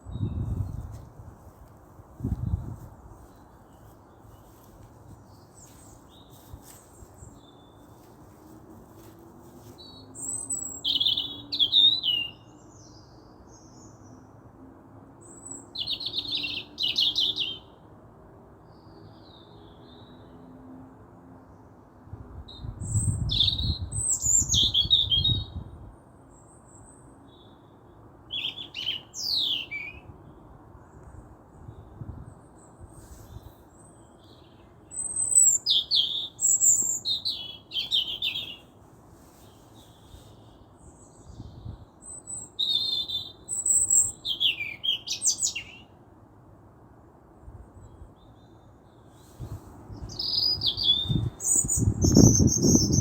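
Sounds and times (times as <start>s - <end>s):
songbird chirps and trills: 0.0s - 14.4s, 22.5s - 46.0s, 47.4s - 53.0s.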